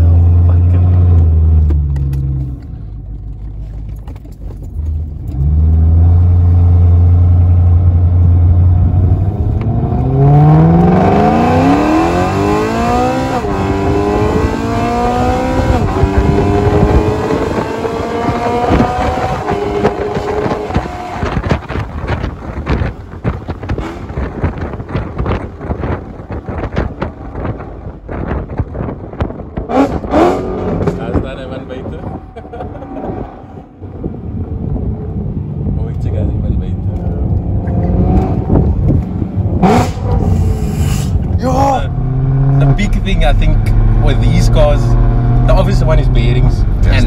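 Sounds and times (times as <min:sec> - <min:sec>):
car engine revving: 0:04.8 - 0:47.0
wind noise: 0:07.8 - 0:47.0.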